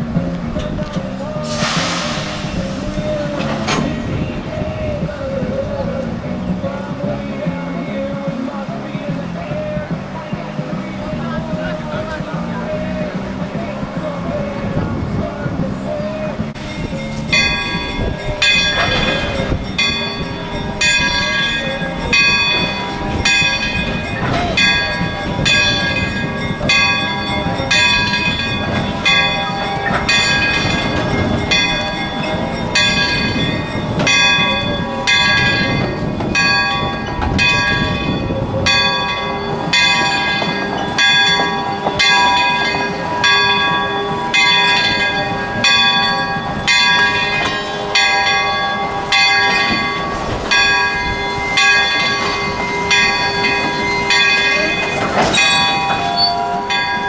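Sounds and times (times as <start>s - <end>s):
steam locomotive bell ringing: 0.0s - 4.9s, 11.0s - 57.0s.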